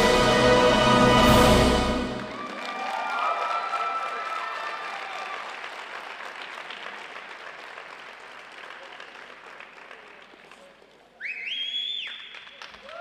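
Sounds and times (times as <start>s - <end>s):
audience applause: 1.2s - 11.2s, 12.0s - 13.0s.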